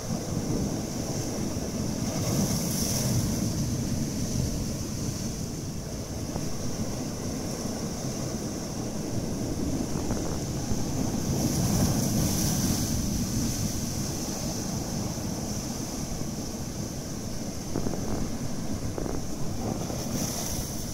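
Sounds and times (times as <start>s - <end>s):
waves breaking over rocks: 0.0s - 20.9s.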